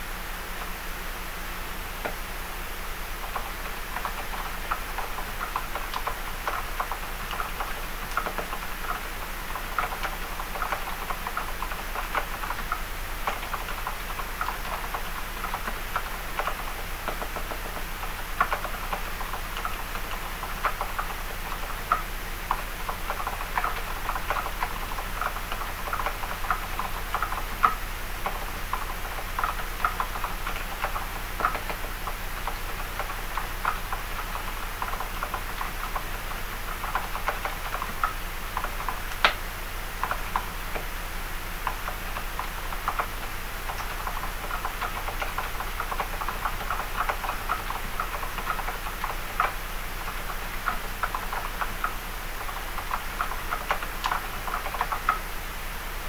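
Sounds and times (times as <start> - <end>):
mechanical keyboard typing: 3.2 - 39.4, 40.0 - 40.9, 41.6 - 55.3.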